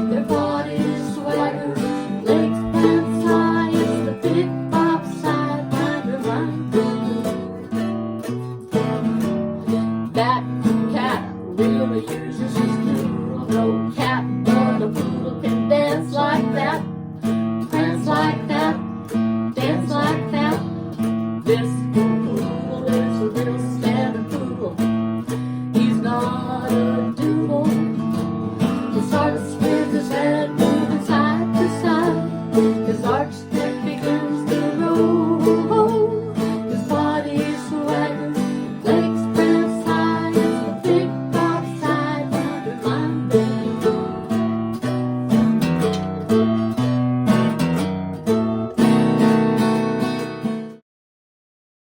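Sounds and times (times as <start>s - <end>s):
acoustic guitar picking runs: 0.0s - 50.6s
strummed guitar chords: 0.0s - 50.8s.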